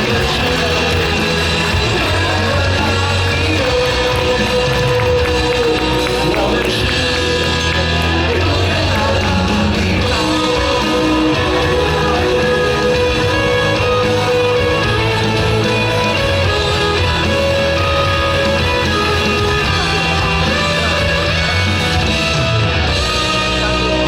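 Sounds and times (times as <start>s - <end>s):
electric guitar: 0.0s - 24.0s
loud rock music: 0.0s - 24.0s
person singing: 0.0s - 24.0s.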